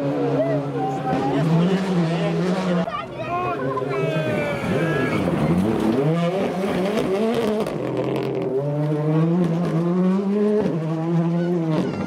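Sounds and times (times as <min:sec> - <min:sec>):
rally car engine accelerating: 0:00.0 - 0:12.0
engine crackles: 0:01.0 - 0:12.0.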